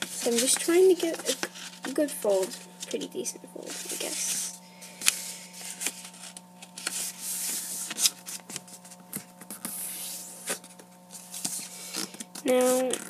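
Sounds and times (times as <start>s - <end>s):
paper rustling and rubbing: 0.0s - 13.0s.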